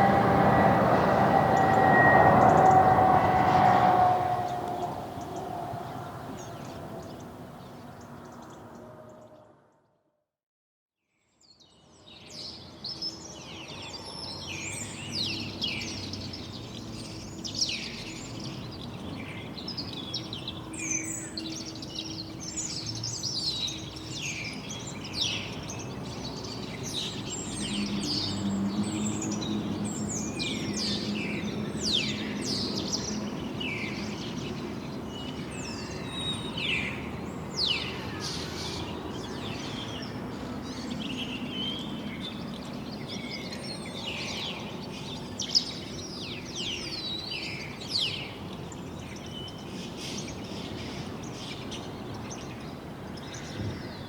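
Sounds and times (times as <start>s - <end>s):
songbirds chirping: 0.0s - 9.9s, 11.4s - 54.0s.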